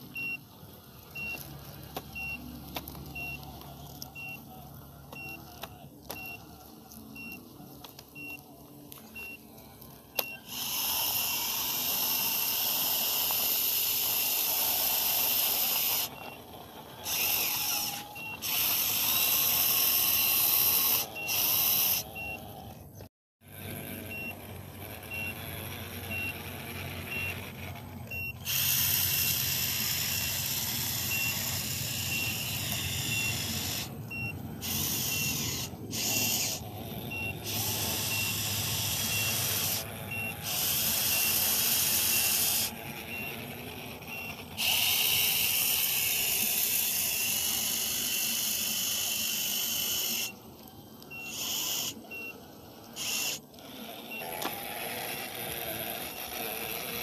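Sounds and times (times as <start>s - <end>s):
high reversing beep: 0.0s - 9.5s, 10.1s - 22.7s, 24.0s - 50.4s, 51.1s - 53.4s, 54.0s - 54.5s
model bulldozer motor whining: 0.0s - 57.0s.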